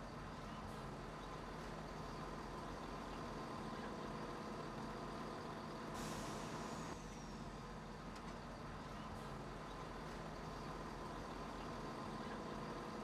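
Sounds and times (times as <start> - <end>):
diesel train engine idling: 0.0 - 13.0.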